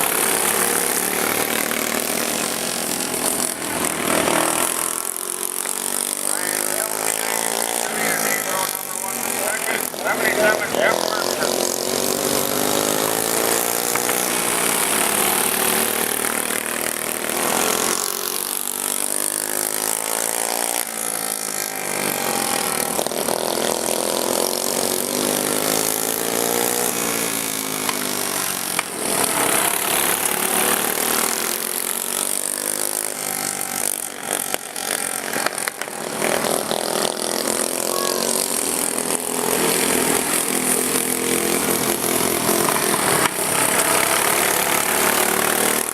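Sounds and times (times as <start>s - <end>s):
lawn mower engines revving: 0.0s - 45.9s.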